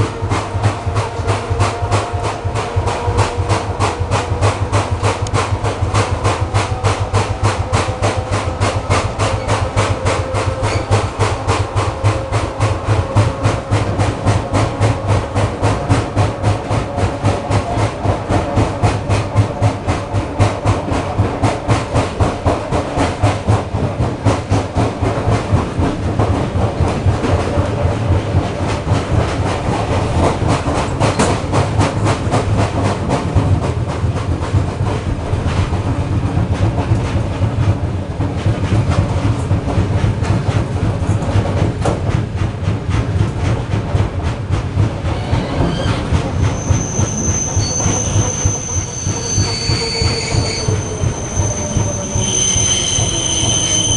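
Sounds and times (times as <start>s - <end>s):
train running hum: 0.0s - 53.9s.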